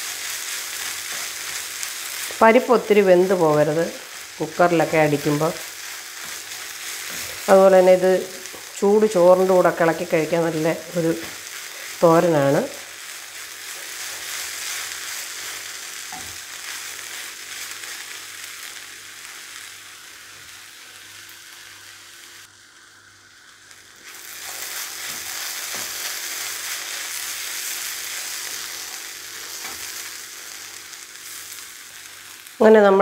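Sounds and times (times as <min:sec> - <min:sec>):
food sizzling in a pan: 0:00.0 - 0:33.0.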